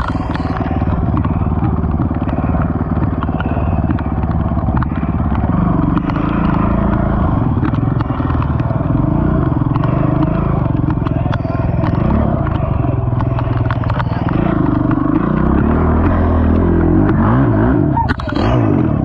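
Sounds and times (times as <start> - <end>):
atv engine revving: 0.0 - 19.0
sharp clicks and clatter: 0.0 - 19.0.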